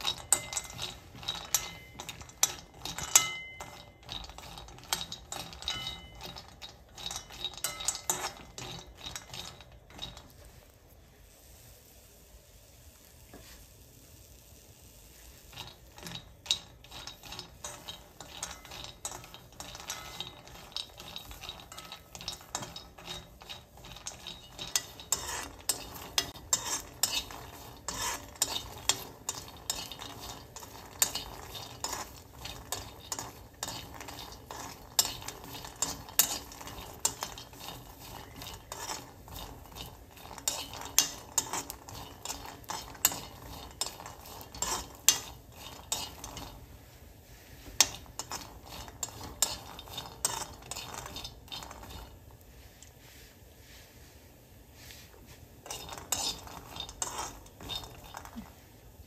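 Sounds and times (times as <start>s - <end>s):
peanuts rattling in a pan: 0.0s - 59.0s.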